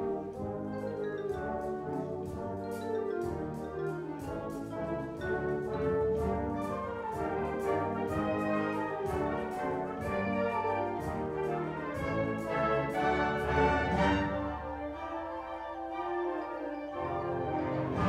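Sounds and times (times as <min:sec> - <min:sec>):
steady percussion beat: 0:00.0 - 0:14.6
brass and woodwind chords: 0:00.0 - 0:18.0.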